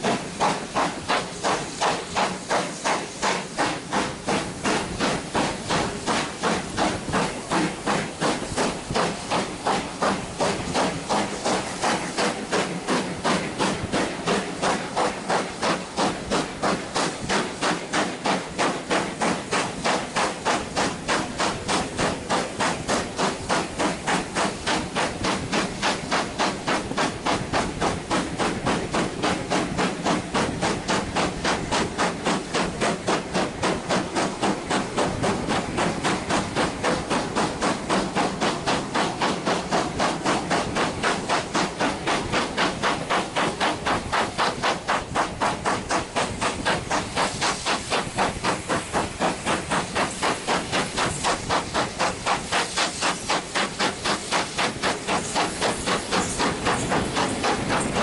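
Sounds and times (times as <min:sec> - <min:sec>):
hiss of steam: 0:00.0 - 0:58.0
steam locomotive exhaust beating: 0:00.0 - 0:58.0.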